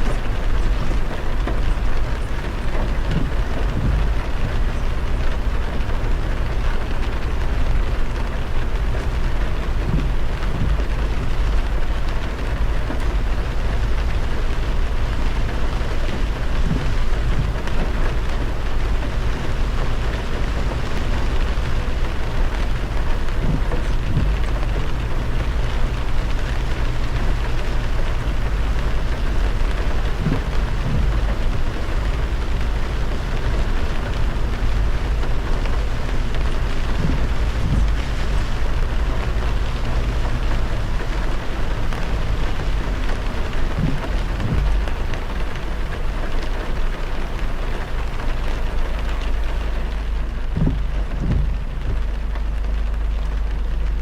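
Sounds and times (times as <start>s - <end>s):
heavy rain on a car: 0.0s - 54.0s
low road rumble: 0.0s - 54.0s
tyres hissing on wet road: 0.0s - 54.0s.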